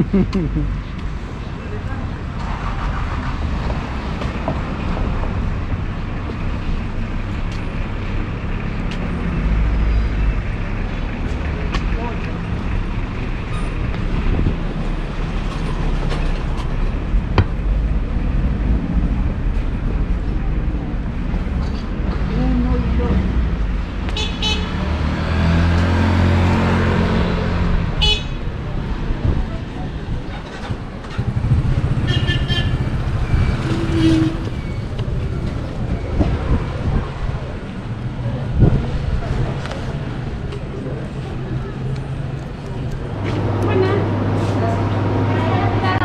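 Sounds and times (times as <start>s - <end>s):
vehicle engine rumbling: 0.0s - 46.0s.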